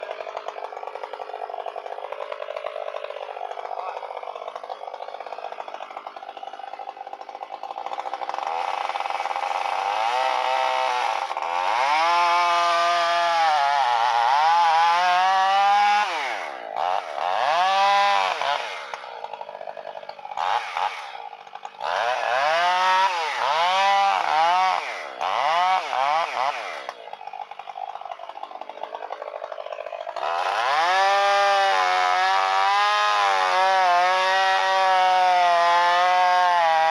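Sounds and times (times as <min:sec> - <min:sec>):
chainsaw cutting tree trunk: 0:00.0 - 0:36.9.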